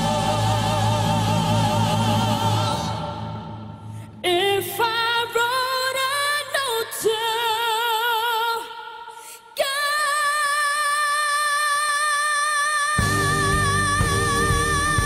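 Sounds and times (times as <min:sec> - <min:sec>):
high voice singing with vibrato: 0:00.0 - 0:15.0.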